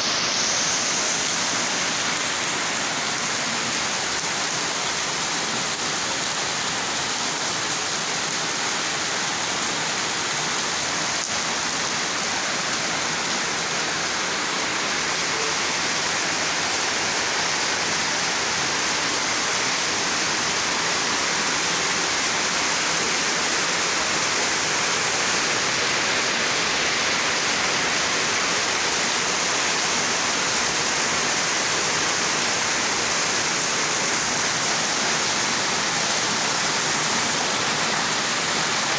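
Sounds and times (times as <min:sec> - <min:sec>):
rain on metal roofing: 0:00.0 - 0:38.9.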